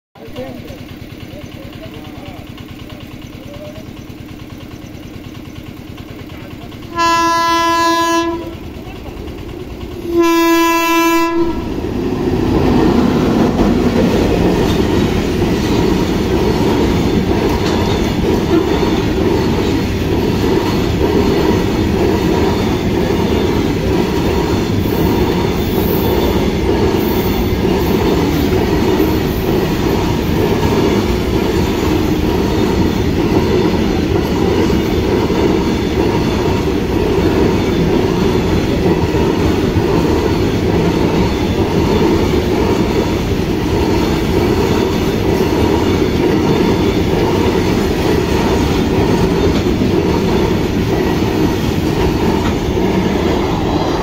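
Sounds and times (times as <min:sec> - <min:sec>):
freight train wheels on rails: 0:00.2 - 0:54.0.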